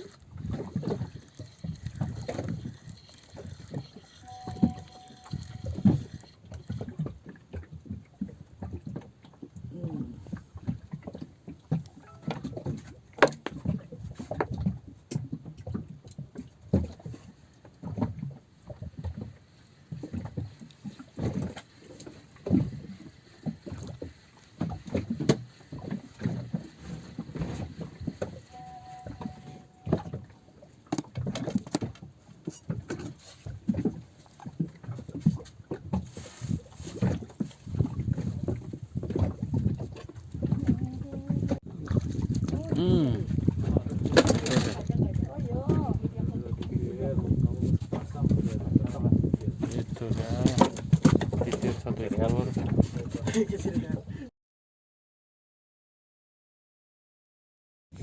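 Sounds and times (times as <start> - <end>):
water slapping against boat hull: 0.0 - 4.0, 5.3 - 54.1.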